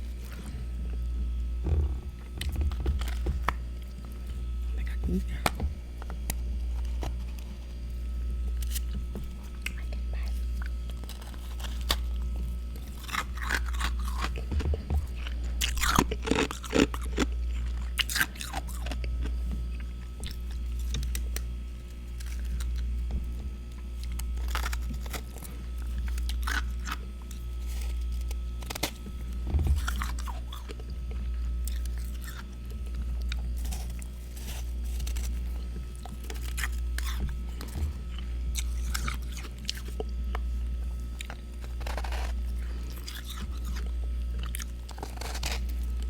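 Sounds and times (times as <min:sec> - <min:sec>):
frost being chewed: 0:00.0 - 0:46.0
steady low hum: 0:00.0 - 0:46.0.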